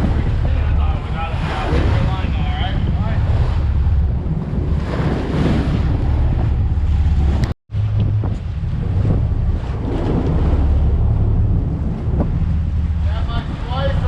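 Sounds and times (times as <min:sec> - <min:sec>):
low rumble of boat and water: 0:00.0 - 0:14.0
wind buffeting microphone: 0:00.0 - 0:14.0.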